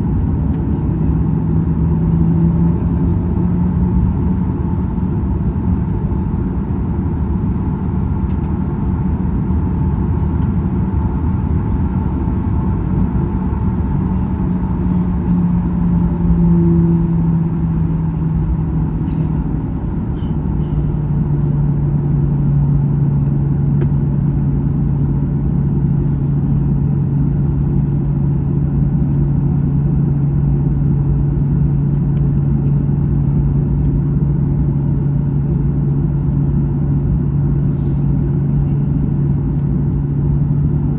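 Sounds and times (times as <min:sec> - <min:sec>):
airplane cabin engine rumble: 0:00.0 - 0:40.9
low hum: 0:00.0 - 0:40.9.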